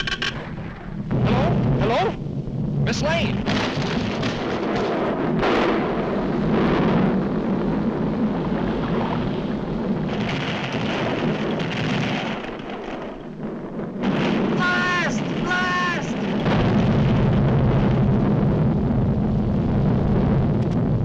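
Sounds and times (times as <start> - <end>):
cartoon volcanic eruption rumble: 0.0 - 21.0.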